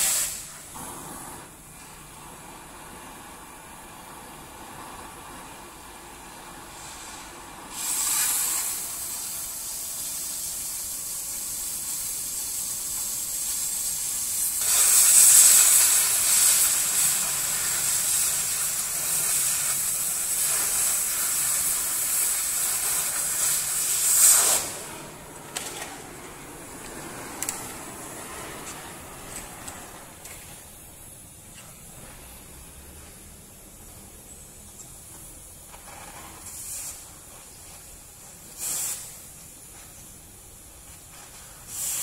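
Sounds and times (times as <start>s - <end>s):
oxygen jet blowing through steel: 0.0s - 32.8s, 38.4s - 39.3s, 41.0s - 42.0s
cutting torch hissing: 0.0s - 42.0s.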